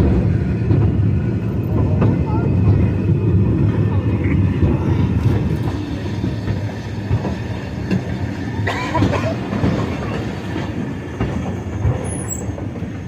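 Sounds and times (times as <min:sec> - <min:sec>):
railroad car rumbling on track: 0:00.0 - 0:13.0.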